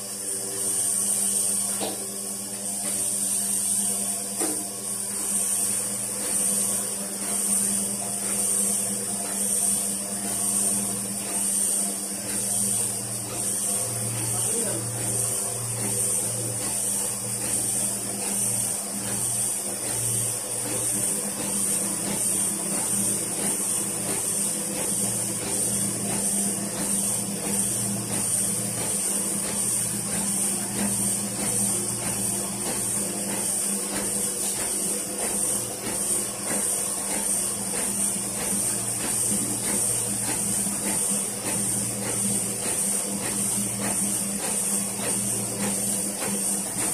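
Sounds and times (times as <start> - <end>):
printing press running: 0.0 - 46.9.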